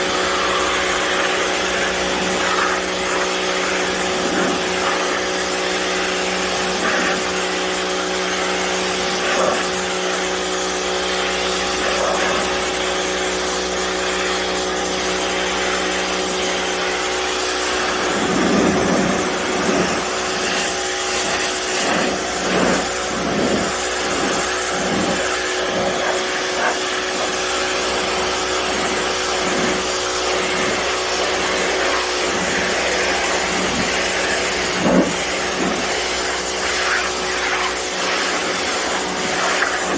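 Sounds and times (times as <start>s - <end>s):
high-pressure water spray hiss: 0.0s - 39.9s
pressure washer motor drone: 0.0s - 39.9s.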